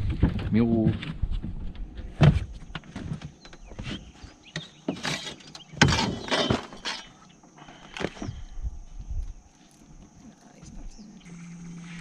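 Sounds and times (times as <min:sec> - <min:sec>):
faint steady high whine: 0:01.6 - 0:12.0.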